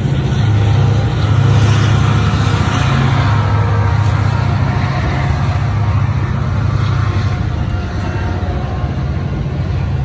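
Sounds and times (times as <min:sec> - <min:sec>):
locomotive engine drone: 0:00.0 - 0:10.0
train rolling past: 0:00.0 - 0:10.0.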